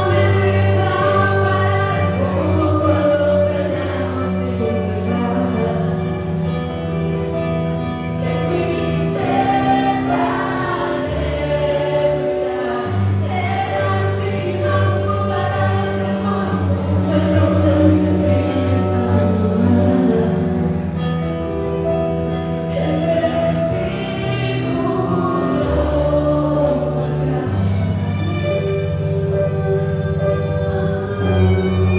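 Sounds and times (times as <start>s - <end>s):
woman singing: 0.0s - 6.2s, 8.2s - 21.0s, 22.7s - 28.5s, 29.2s - 31.9s
acoustic band playing: 0.0s - 31.9s.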